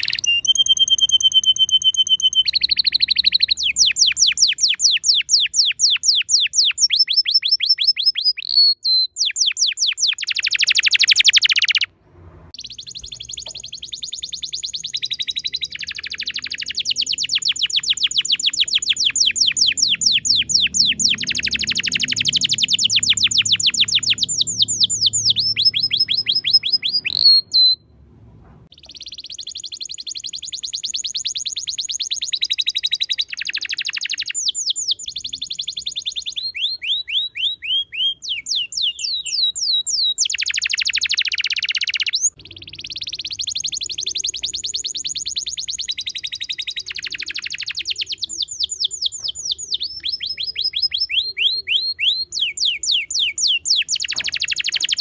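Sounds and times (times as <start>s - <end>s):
songbird trilling: 0.0s - 11.9s, 12.6s - 27.8s, 28.7s - 55.0s.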